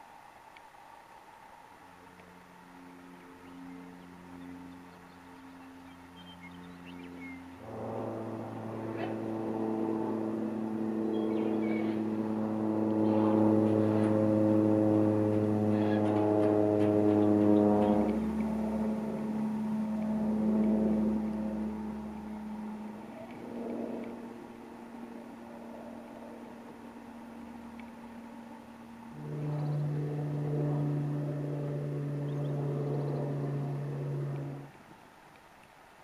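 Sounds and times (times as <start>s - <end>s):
tractor engine droning: 1.8s - 35.0s.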